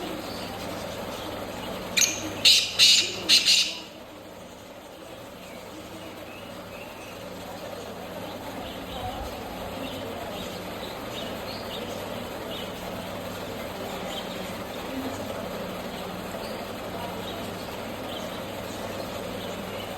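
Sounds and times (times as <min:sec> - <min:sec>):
low rumble of distant engine: 0:00.0 - 0:19.9
small birds chirping: 0:00.0 - 0:19.9
steady hum: 0:00.0 - 0:19.9.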